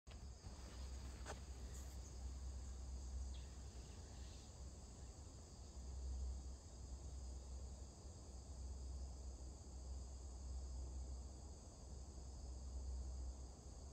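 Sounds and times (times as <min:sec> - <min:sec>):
high-pitched insect chorus: 0:00.1 - 0:13.9.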